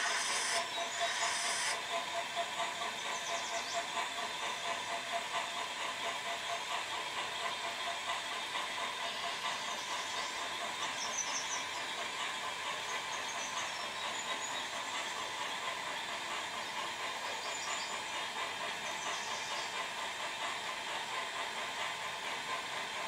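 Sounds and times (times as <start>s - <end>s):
model train running with hiss: 0.0s - 23.0s.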